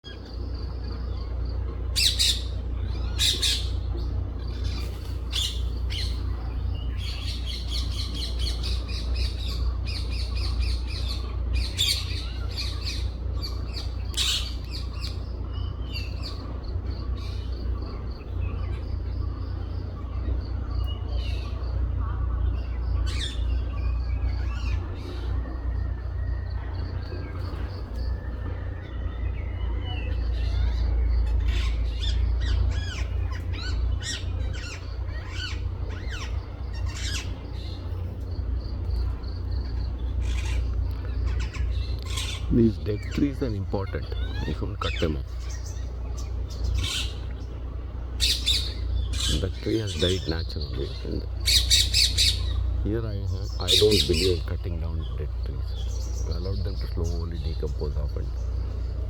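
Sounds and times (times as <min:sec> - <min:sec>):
birds chirping and squawking: 0:00.0 - 0:59.0
steady low rumble: 0:00.0 - 0:59.0.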